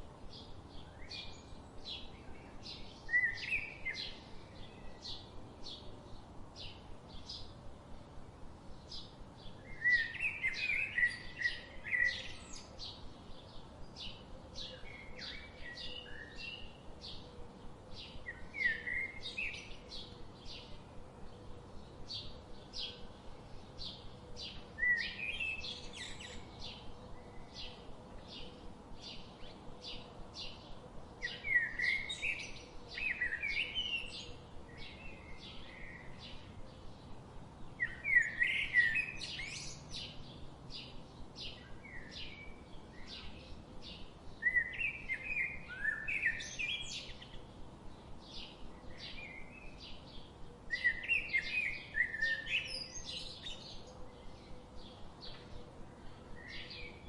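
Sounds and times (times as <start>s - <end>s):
bird chirping: 8.7s - 57.0s.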